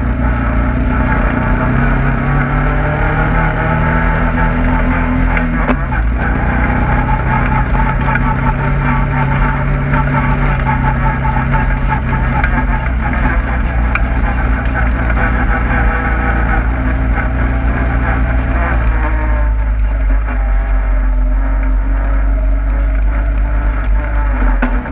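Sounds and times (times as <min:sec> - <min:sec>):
knocks and rattles: 0:00.0 - 0:24.9
off-road vehicle engine: 0:00.0 - 0:24.9.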